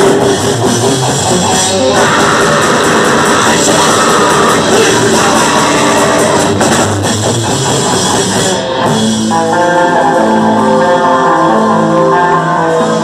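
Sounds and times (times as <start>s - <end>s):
death metal band playing live: 0.0s - 13.0s.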